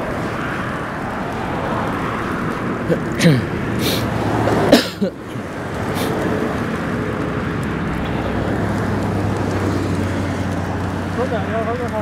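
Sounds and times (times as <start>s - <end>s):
road traffic noise: 0.0s - 12.0s
wind rushing over microphone: 0.0s - 12.0s.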